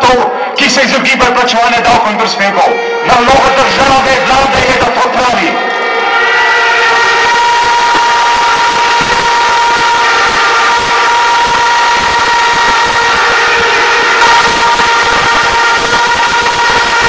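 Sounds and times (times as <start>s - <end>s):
crowd noise: 0.0s - 17.0s
horns blaring: 0.0s - 17.0s.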